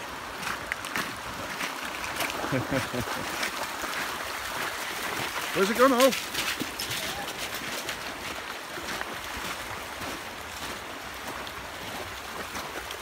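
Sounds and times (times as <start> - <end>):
river running over stones: 0.0 - 13.0
dogs splashing in water: 0.4 - 13.0.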